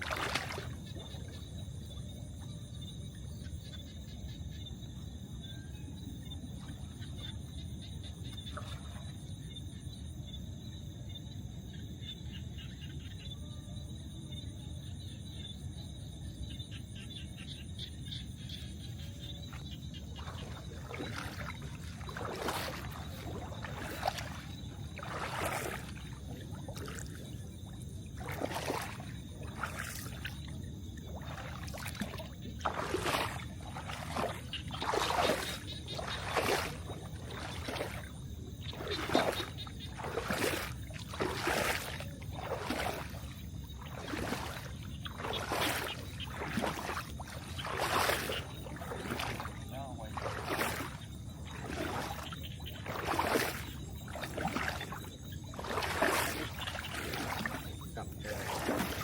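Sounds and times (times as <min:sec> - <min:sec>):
water splashing and swishing: 0:00.0 - 0:12.8, 0:17.3 - 0:59.0.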